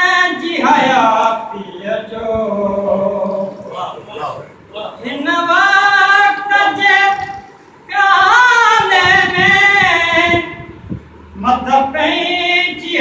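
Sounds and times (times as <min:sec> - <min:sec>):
man singing unaccompanied: 0:00.0 - 0:10.6, 0:11.4 - 0:13.0.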